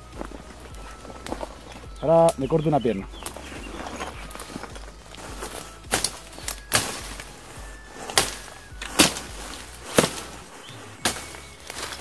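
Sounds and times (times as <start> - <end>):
machete hacking branches: 0.0 - 12.0.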